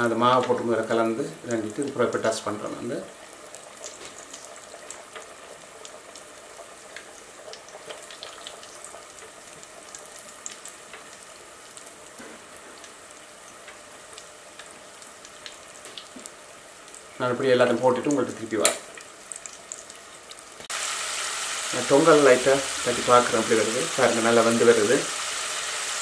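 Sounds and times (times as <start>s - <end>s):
oil sizzling and popping: 0.0s - 26.0s.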